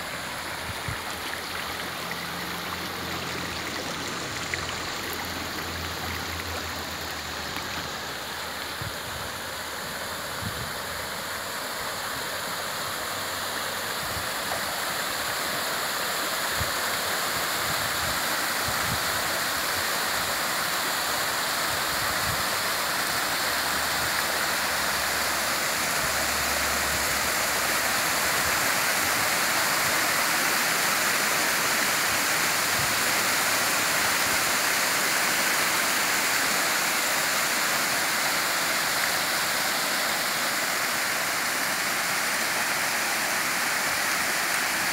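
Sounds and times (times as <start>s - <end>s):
waterfall rushing and splashing: 0.0s - 44.9s.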